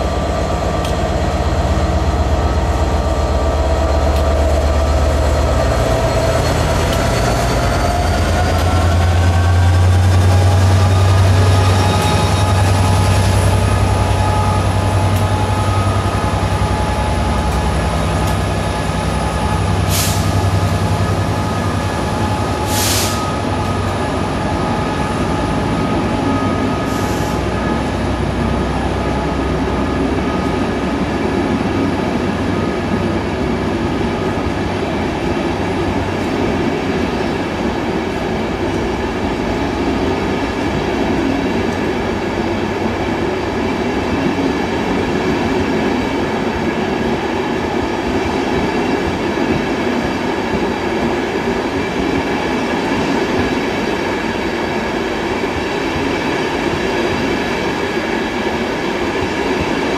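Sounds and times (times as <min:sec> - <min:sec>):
diesel locomotive engine: 0:00.0 - 0:59.9
train wheels rolling on rails: 0:00.0 - 0:59.9.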